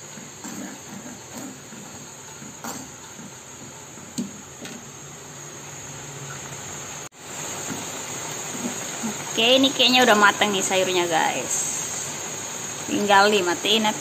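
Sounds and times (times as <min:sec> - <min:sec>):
soup bubbling at a boil: 0:00.0 - 0:14.0.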